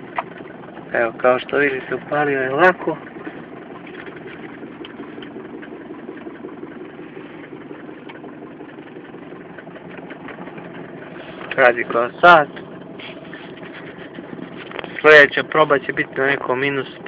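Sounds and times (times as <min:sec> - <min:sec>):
diesel engine idling with clatter: 0:00.0 - 0:17.0.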